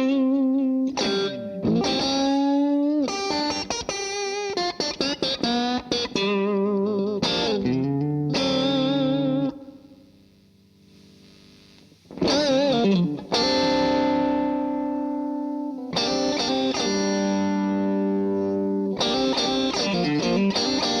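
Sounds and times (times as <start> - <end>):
faint amp hiss: 0.0 - 21.0
overdriven electric guitar: 0.0 - 21.0.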